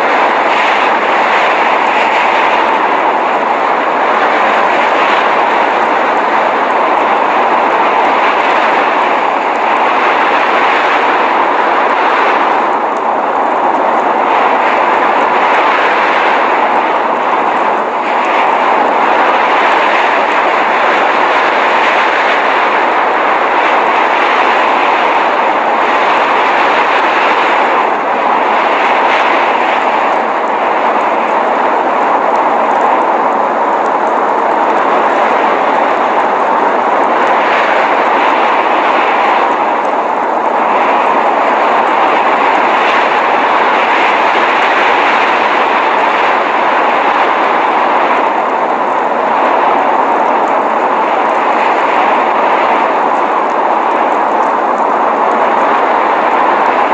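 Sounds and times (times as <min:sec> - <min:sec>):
blizzard wind rushing: 0:00.0 - 0:56.9.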